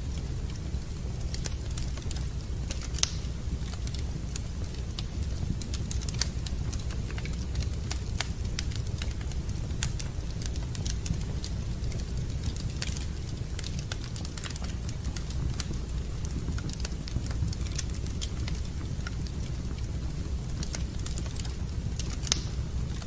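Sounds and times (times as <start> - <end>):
low fire rumble: 0.0 - 23.0
wood fire crackling: 0.0 - 23.0
sharp pops of burning wood: 1.2 - 22.6.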